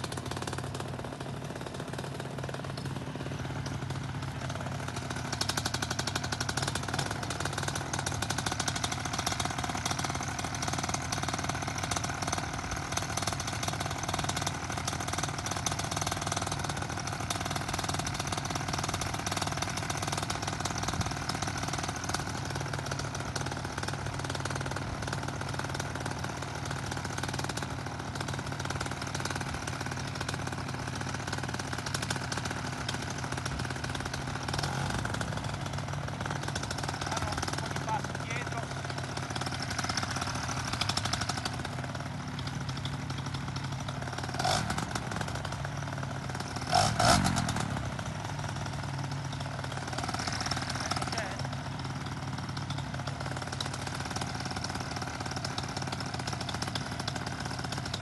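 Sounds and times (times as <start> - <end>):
paramotor engine idling: 0.0 - 58.0.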